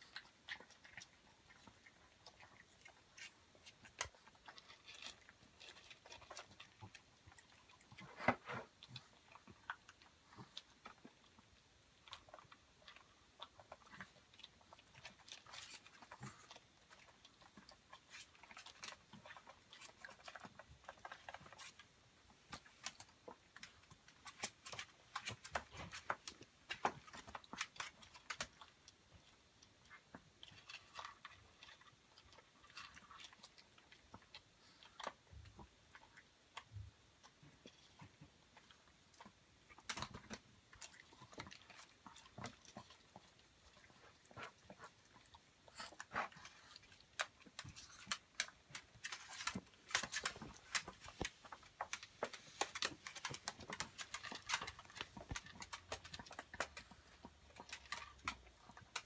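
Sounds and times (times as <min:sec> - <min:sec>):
dog chewing food: 0:00.0 - 0:59.0.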